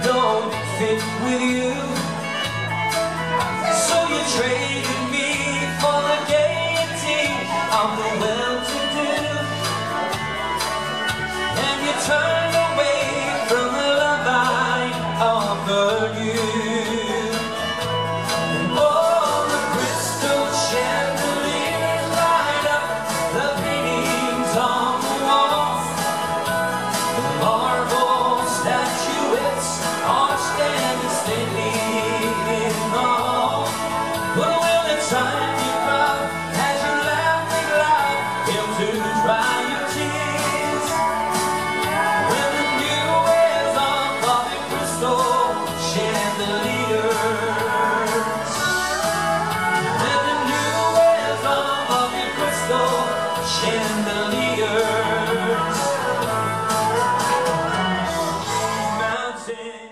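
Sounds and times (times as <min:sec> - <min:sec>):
amplified backing music: 0:00.0 - 0:59.9
man singing country song: 0:00.0 - 0:59.9.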